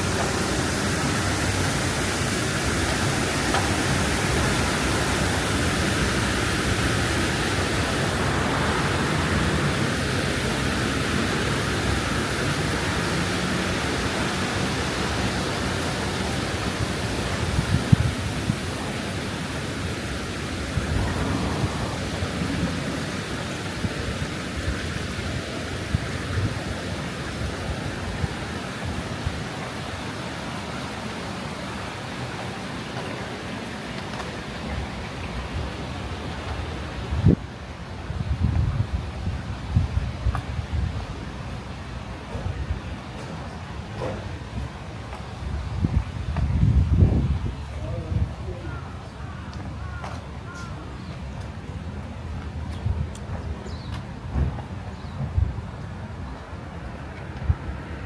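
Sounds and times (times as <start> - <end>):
flowing canal water: 0.0 - 58.0.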